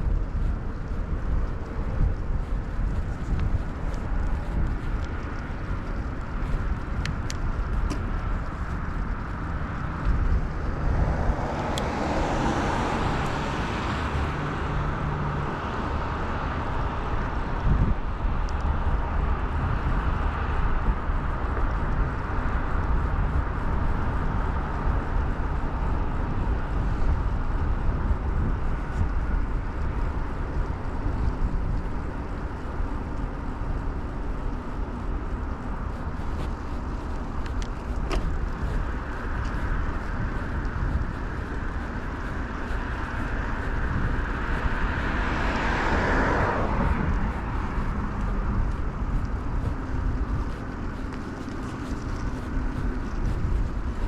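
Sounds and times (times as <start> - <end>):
road traffic passing: 0.0 - 54.0
wind noise: 0.0 - 54.0.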